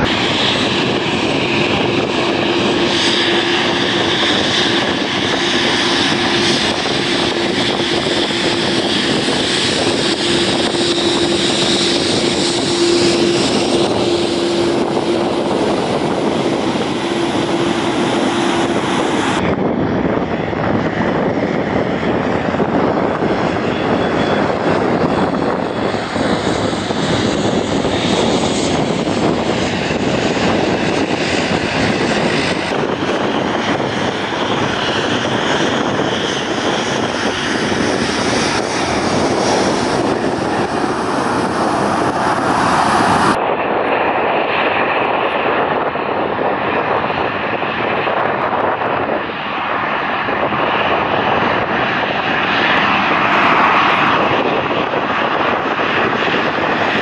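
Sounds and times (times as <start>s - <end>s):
jet engines taxiing: 0.0s - 57.0s
turboprop propellers rushing: 0.0s - 57.0s.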